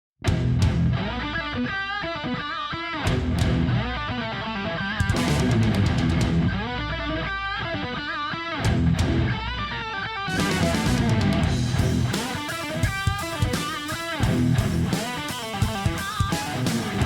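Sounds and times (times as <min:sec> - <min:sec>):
rock music with electric guitar: 0:00.2 - 0:17.0.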